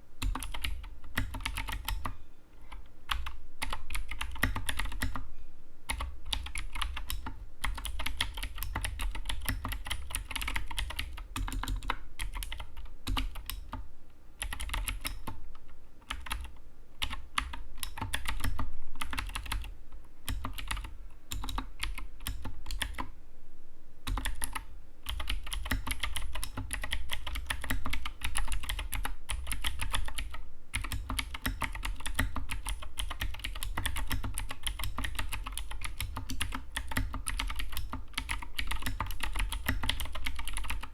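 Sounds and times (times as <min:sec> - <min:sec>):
fast typing on mechanical keyboard: 0:00.2 - 0:02.1, 0:03.1 - 0:05.2, 0:05.9 - 0:13.8, 0:14.4 - 0:15.4, 0:16.0 - 0:19.7, 0:20.3 - 0:23.1, 0:24.1 - 0:40.9.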